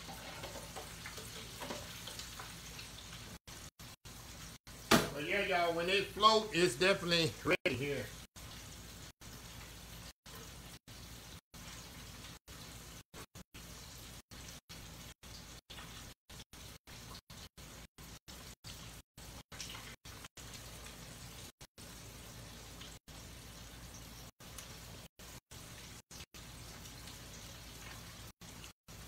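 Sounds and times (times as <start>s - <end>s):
fish sizzling in hot oil: 0.0s - 5.3s, 8.0s - 29.0s.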